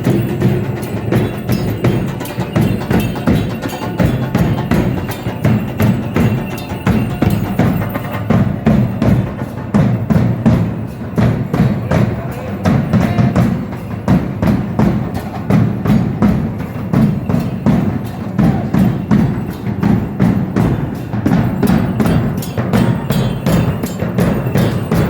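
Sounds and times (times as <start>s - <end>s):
steady drum beat: 0.0s - 25.0s.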